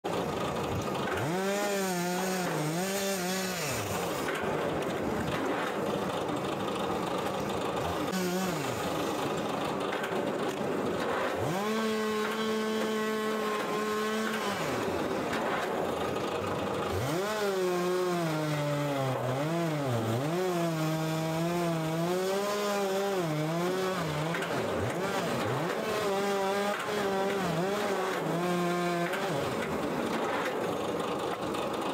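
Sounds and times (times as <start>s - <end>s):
electric log splitter motor hum: 0.1s - 31.9s.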